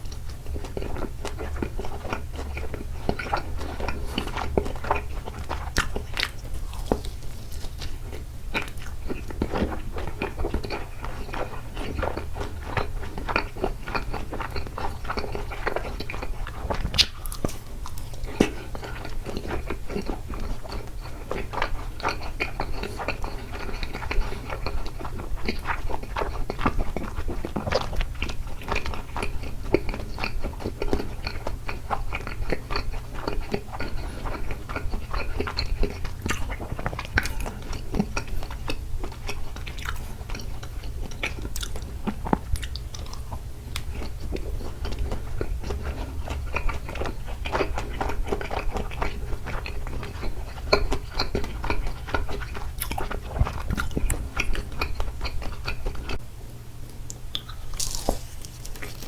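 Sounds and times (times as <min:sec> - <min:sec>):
mouth chewing and biting: 0:00.1 - 0:56.2, 0:57.1 - 0:59.0.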